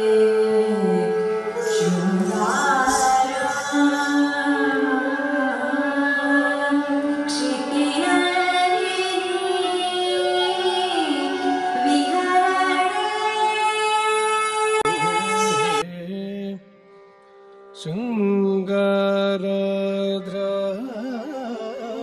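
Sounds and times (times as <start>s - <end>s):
person singing melody: 0.0s - 16.6s, 17.8s - 22.0s.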